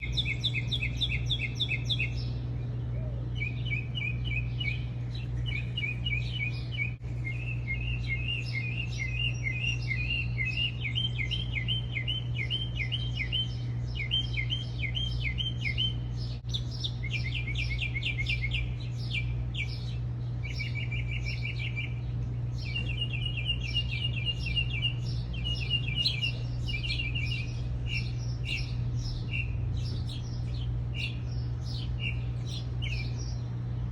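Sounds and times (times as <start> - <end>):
small birds chirping: 0.0 - 33.9
steady low hum: 0.0 - 33.9.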